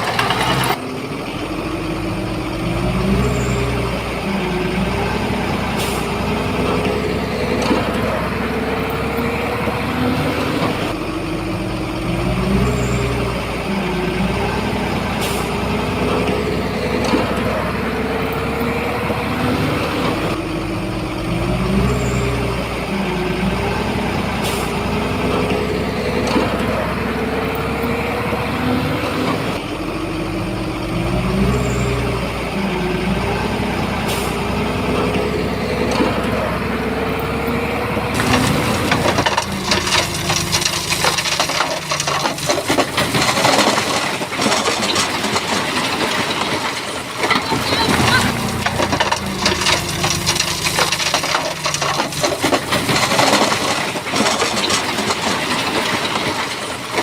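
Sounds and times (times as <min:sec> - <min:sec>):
bulldozer engine droning: 0:00.0 - 0:57.0.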